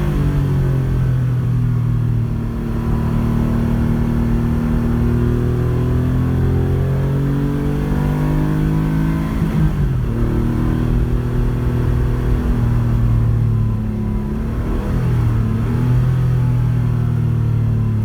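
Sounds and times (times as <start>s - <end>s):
rally car engine under load: 0.0s - 18.0s.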